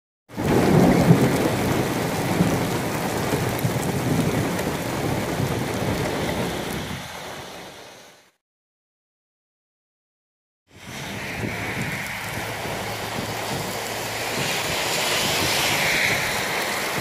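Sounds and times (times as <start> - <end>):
heavy rain on wet road: 0.3 - 8.4, 10.8 - 17.0.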